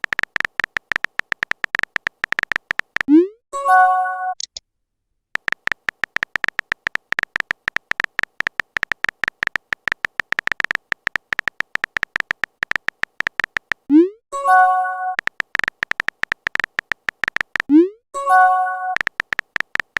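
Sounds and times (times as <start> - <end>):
typing clicks with beep tones: 0.0 - 4.6, 5.4 - 19.9.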